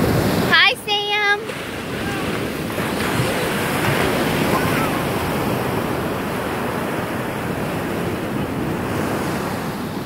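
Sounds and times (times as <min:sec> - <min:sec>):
surf washing onto beach: 0:00.0 - 0:10.0
wind buffeting microphone: 0:00.0 - 0:10.0.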